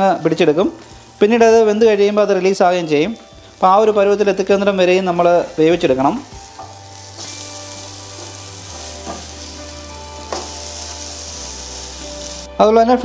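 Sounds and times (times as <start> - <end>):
eggplant sizzling in butter: 0.0 - 12.5.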